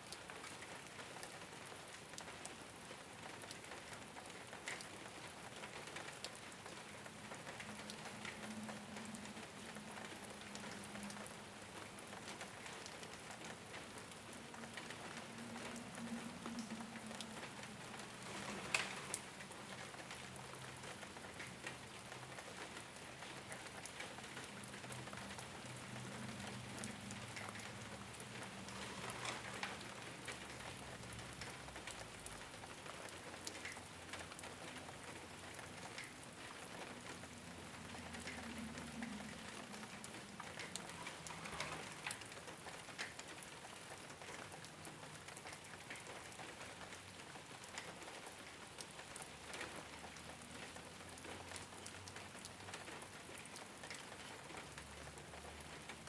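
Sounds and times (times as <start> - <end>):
rain on a rooftop: 0.0 - 56.0
raindrops tapping: 0.0 - 56.0.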